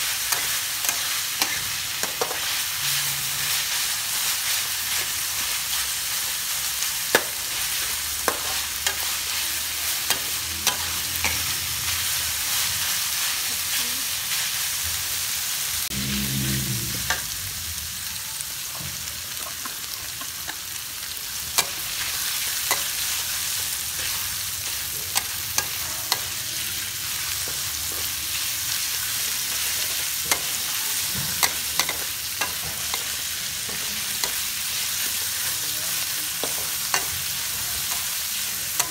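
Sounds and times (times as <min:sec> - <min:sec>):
food sizzling in wok: 0:00.0 - 0:38.9.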